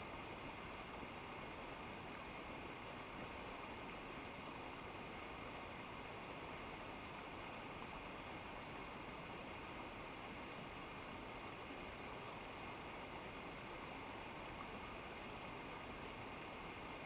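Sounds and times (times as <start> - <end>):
rushing river or waterfall: 0.0 - 17.0.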